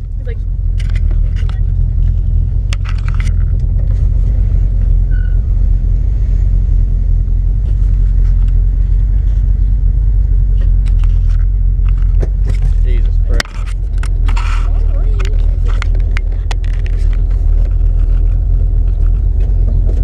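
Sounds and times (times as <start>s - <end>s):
loud deep car engine idling: 0.0s - 20.0s.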